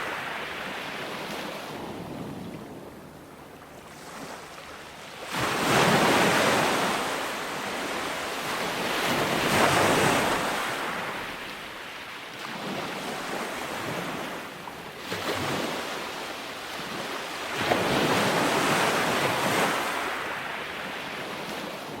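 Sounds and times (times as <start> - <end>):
ocean waves breaking: 0.0 - 22.0.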